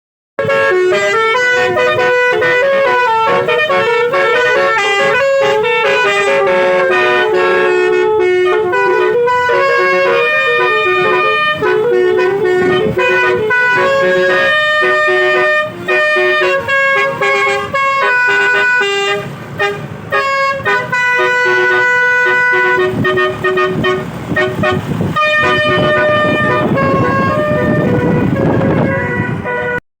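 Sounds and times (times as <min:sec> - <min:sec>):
multi-tone bus horn tune: 0:00.4 - 0:29.8.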